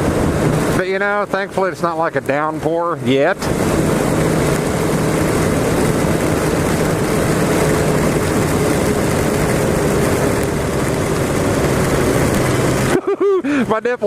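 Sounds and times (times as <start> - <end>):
wind rushing on microphone: 0.0 - 13.0
motorcycle engine cruising: 0.0 - 14.0.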